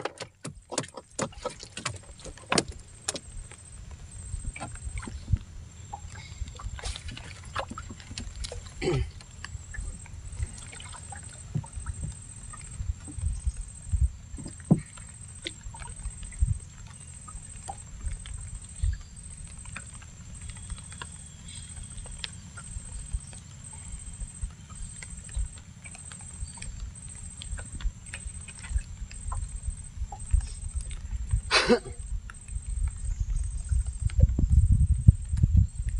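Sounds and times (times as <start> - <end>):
steady low rumble: 2.1 - 35.9.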